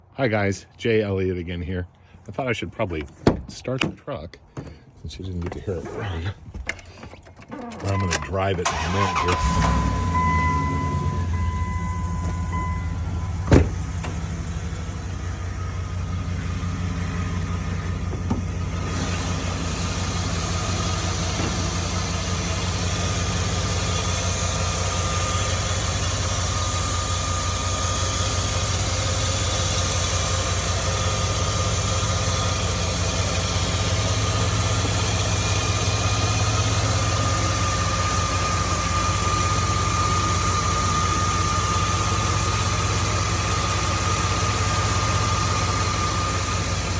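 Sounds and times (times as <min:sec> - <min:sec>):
pickup engine idling: 0:04.4 - 0:46.9.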